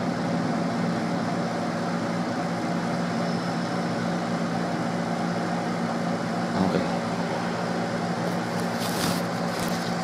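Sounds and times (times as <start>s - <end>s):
fan whirring: 0.0s - 10.0s.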